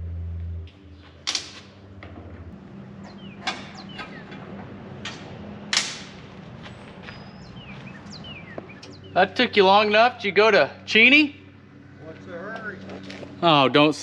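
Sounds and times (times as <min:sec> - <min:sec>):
low engine hum: 0:00.0 - 0:14.0
birds chirping: 0:00.8 - 0:13.6.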